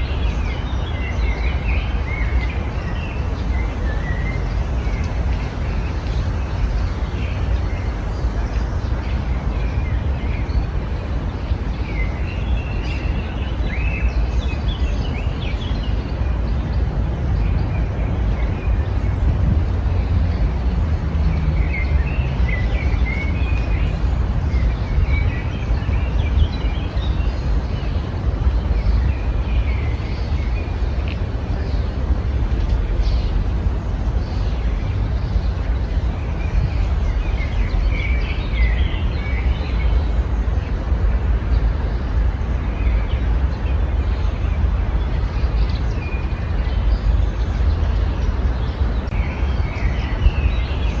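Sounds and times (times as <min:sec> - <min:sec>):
songbirds chirping: 0:00.0 - 0:51.0
steady low rumble: 0:00.0 - 0:51.0.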